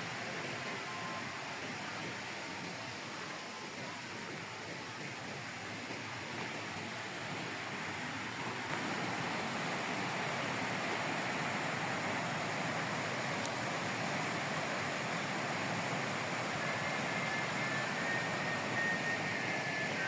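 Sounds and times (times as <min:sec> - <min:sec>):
rushing white water: 0:00.0 - 0:20.0.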